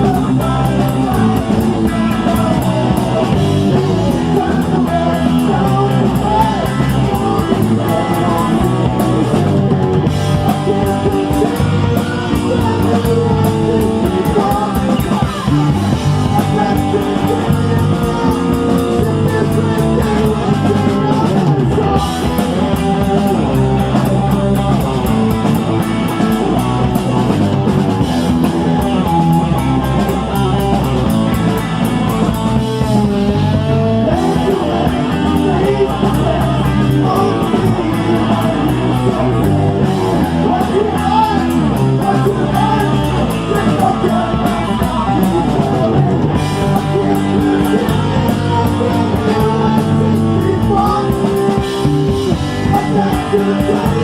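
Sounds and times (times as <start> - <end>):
bass guitar: 0.0 - 54.0
drum kit: 0.0 - 54.0
electric guitar: 0.0 - 54.0
man singing lead vocals: 0.0 - 54.0.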